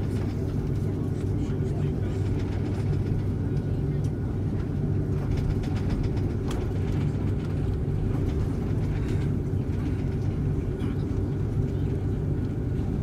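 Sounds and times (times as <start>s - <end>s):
airplane cabin engine hum: 0.0s - 13.0s.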